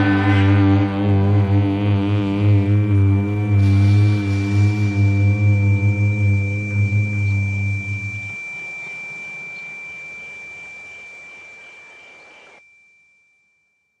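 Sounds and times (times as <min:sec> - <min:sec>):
noisy wash: 0:00.0 - 0:12.5
steady high-pitched tone: 0:00.0 - 0:13.6.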